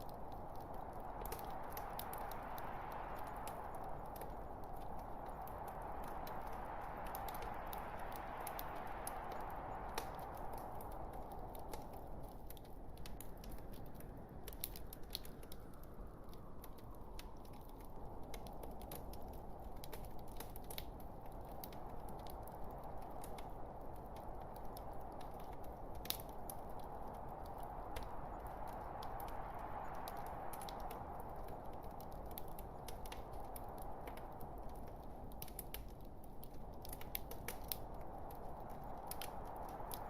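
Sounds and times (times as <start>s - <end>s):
fire crackling and popping: 0.0s - 40.0s
fire rushing: 0.0s - 40.0s.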